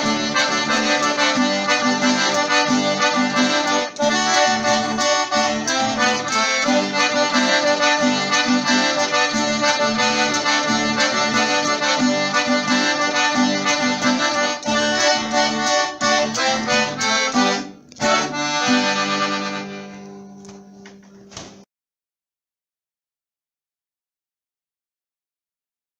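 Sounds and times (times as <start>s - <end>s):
accordion playing: 0.0s - 21.0s.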